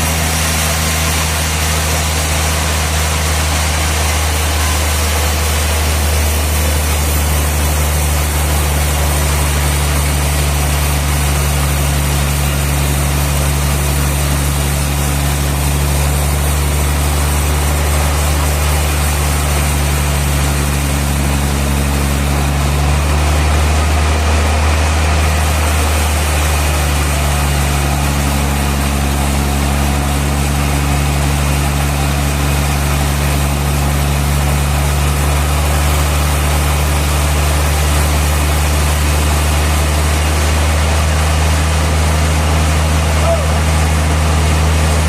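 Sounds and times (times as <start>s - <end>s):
sawmill machinery running: 0.0s - 45.0s.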